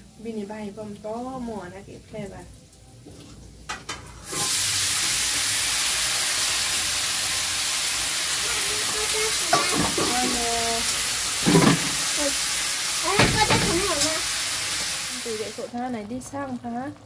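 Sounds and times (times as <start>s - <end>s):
mushrooms sizzling in hot oil: 0.0s - 2.8s, 3.5s - 17.0s.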